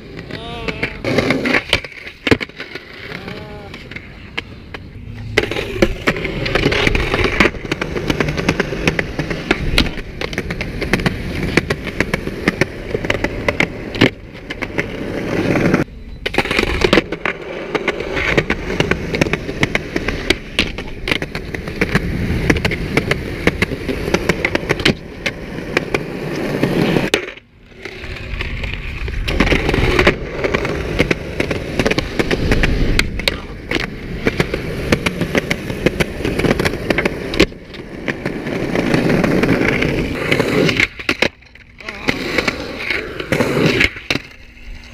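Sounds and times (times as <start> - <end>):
skateboard clacks: 0.0 - 44.9
skateboard wheels rolling on concrete: 0.0 - 44.9.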